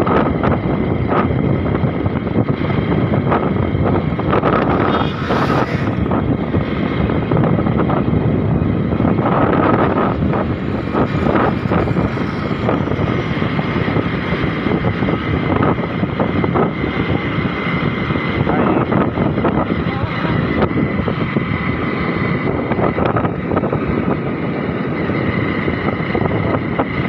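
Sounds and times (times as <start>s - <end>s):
motorcycle cruising: 0.0s - 27.0s
wind rushing over microphone: 0.0s - 27.0s.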